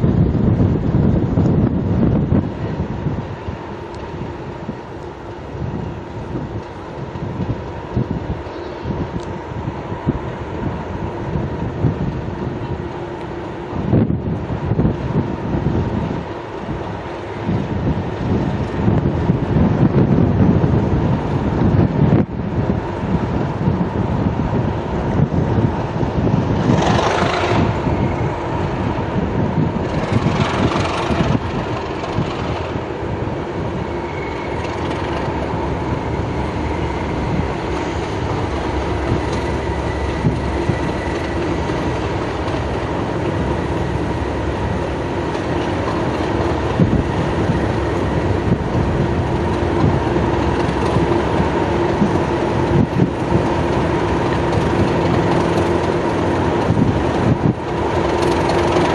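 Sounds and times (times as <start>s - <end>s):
continuous whine: 0.0s - 58.9s
diesel locomotive engine running: 0.0s - 58.9s.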